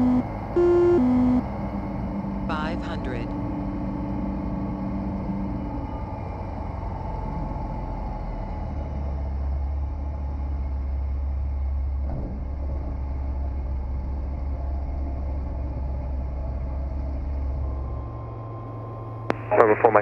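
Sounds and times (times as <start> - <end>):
propeller airplane engine droning: 0.0 - 20.0.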